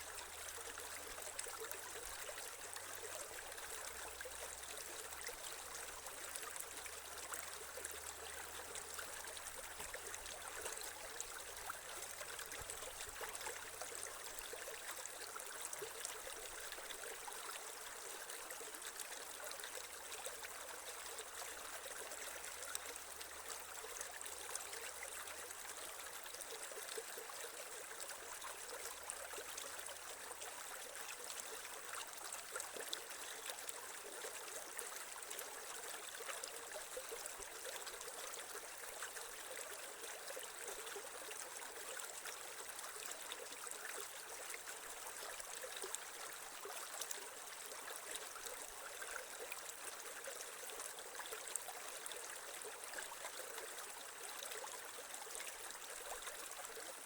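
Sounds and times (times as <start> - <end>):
creek water flowing and trickling: 0.0 - 57.0.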